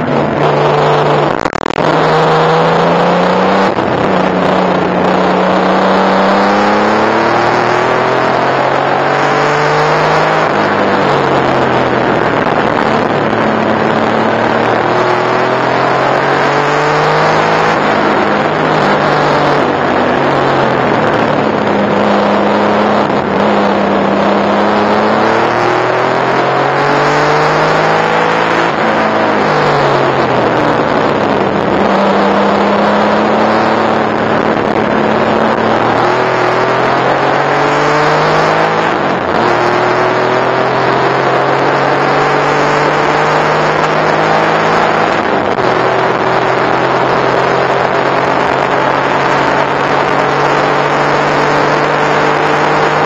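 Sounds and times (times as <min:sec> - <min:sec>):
race car engine revving: 0:00.0 - 0:53.0
wind and road noise: 0:00.0 - 0:53.0.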